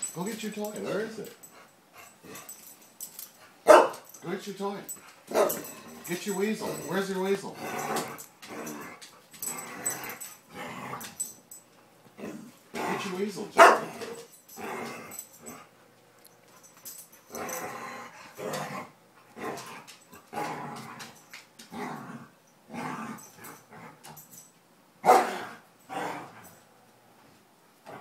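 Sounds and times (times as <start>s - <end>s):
dogs growling and barking: 1.5s - 4.2s, 5.2s - 11.6s, 12.2s - 15.8s, 16.6s - 26.7s, 27.8s - 28.0s.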